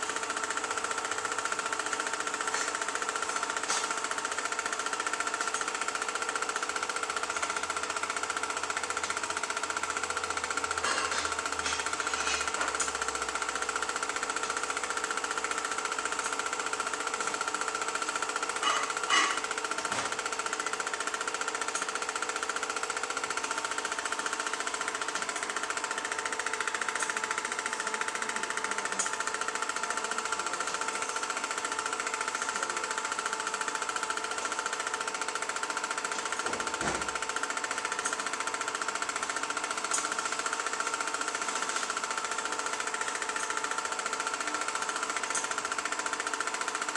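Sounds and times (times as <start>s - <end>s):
film projector clatter: 0.0s - 46.9s
projector motor hum: 0.0s - 46.9s.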